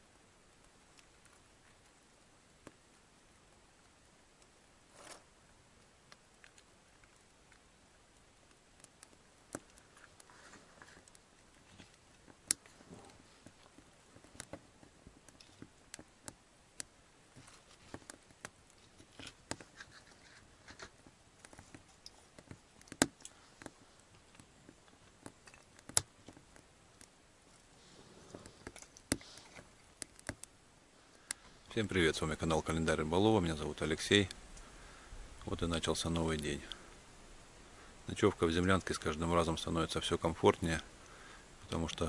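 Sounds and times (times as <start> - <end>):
kindling crackling in a stove: 0.0 - 42.0.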